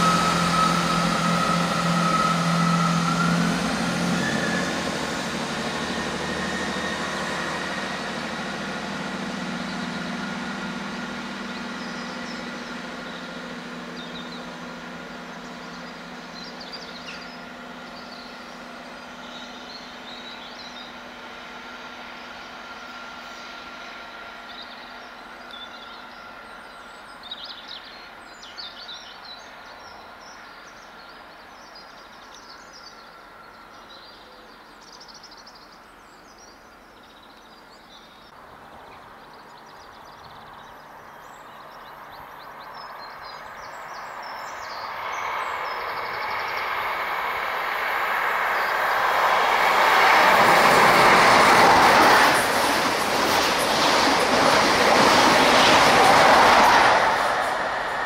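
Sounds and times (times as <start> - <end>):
train wheels on rails: 0.0 - 35.5, 41.6 - 58.0
diesel train engine: 0.0 - 58.0.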